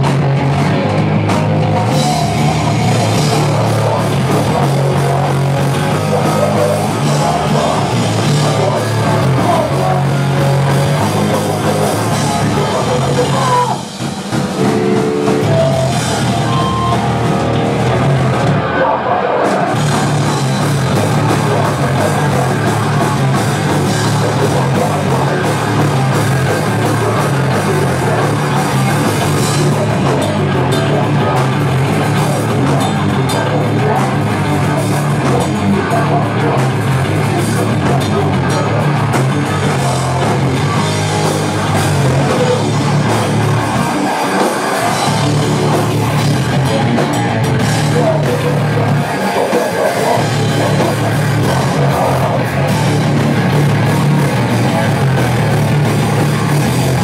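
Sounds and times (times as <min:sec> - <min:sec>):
punk band playing live: 0:00.0 - 0:57.0.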